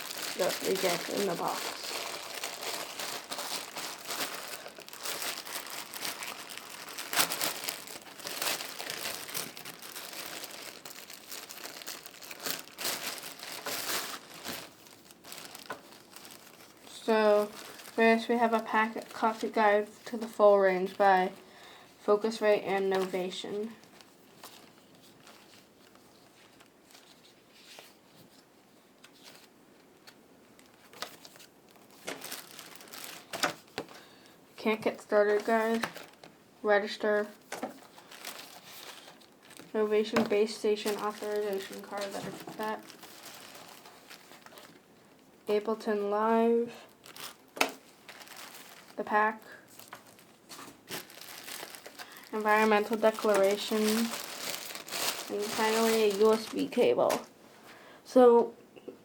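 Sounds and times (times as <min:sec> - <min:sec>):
packaging crinkling and rustling: 0:00.0 - 0:21.4, 0:22.3 - 0:34.1, 0:35.0 - 0:36.4, 0:37.1 - 0:57.3.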